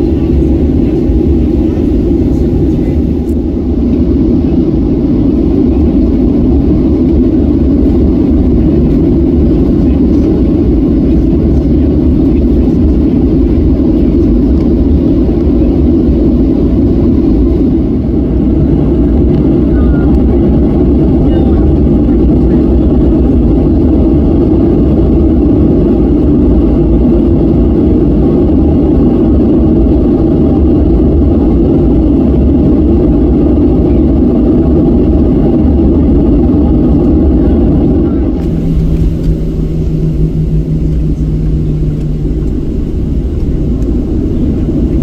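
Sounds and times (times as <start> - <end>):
jet engines rumbling: 0.0 - 45.0
steady low hum: 0.0 - 45.0.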